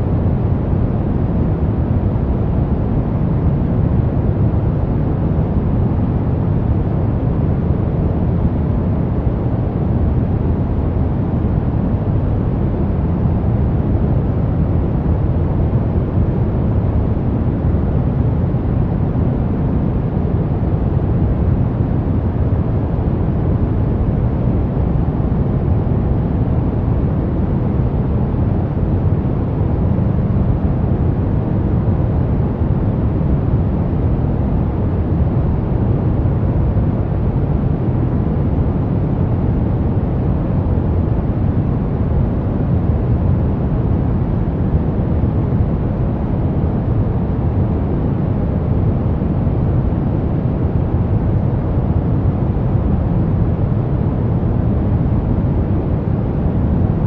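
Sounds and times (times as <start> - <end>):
brown noise rumbling hiss: 0.0 - 57.0.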